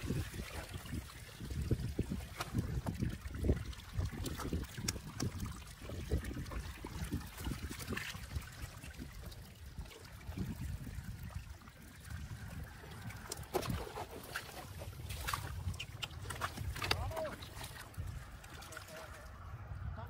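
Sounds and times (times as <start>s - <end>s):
water sloshing and trickling: 0.0s - 20.0s.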